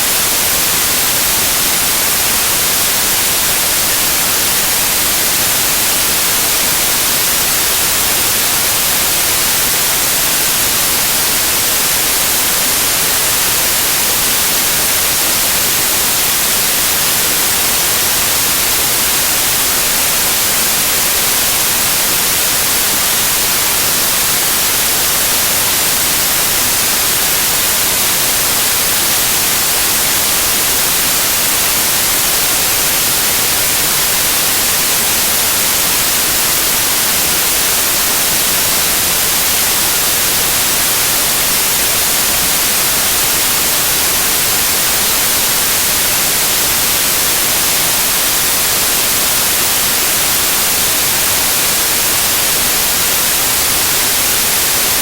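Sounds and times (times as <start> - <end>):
loud white noise hiss: 0.0 - 55.0.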